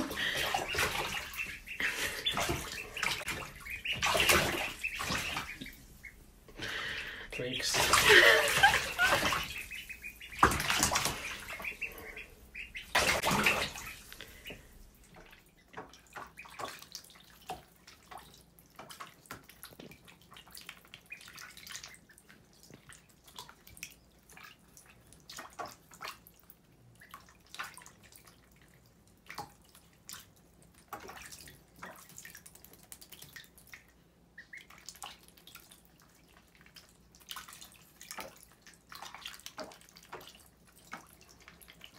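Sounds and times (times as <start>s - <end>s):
water drips: 0.0s - 41.9s
water splashing in bathtub: 0.0s - 41.9s.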